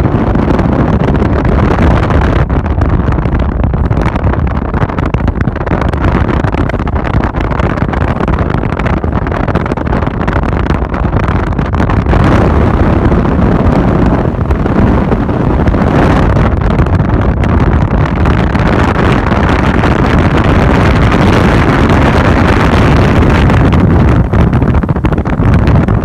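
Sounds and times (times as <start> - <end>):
wind and road noise inside car: 0.0 - 26.0.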